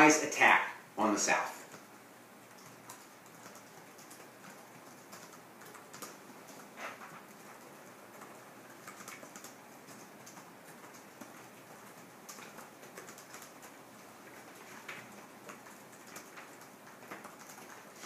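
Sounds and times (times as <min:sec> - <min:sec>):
room hiss: 0:00.0 - 0:18.0
keyboard typing clicks: 0:02.5 - 0:18.0.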